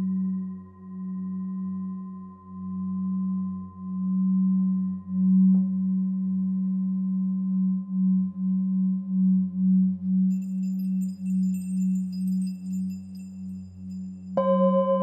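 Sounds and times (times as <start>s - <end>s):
meditative drone music: 0.0s - 15.0s.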